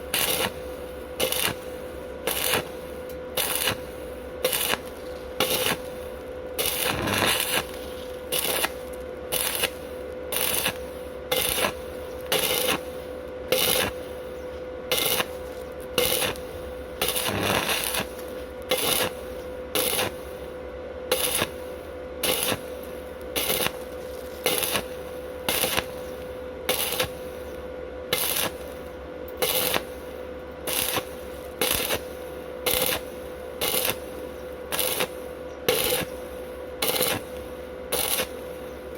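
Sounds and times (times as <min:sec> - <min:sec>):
welder hum: 0:00.0 - 0:38.9
welding arc crackling: 0:00.0 - 0:38.9.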